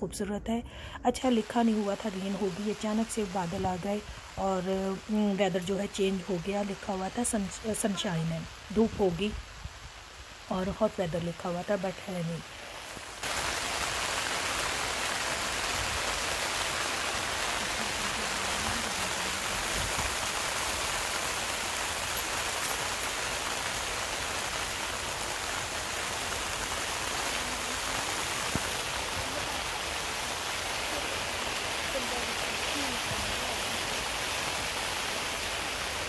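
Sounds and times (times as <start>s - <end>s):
heavy rain falling: 1.2s - 36.0s.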